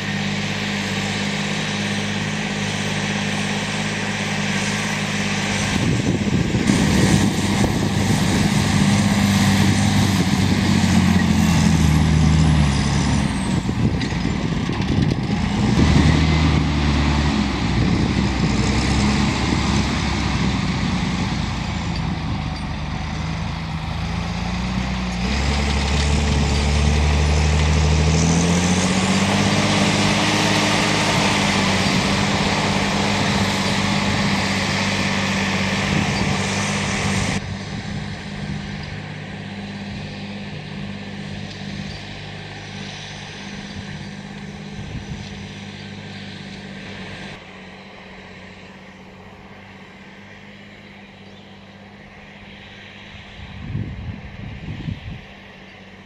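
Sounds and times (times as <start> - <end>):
tractor diesel engine working hard: 0.0 - 56.0.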